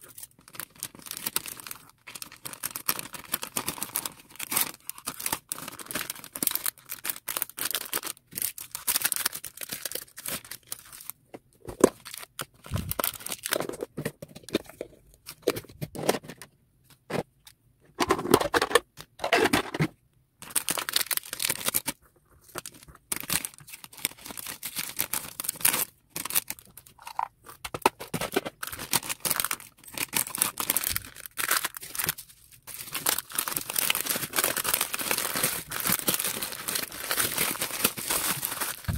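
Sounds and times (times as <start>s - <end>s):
plastic bags and bubble wrap crinkling: 0.0s - 15.6s, 20.4s - 38.9s.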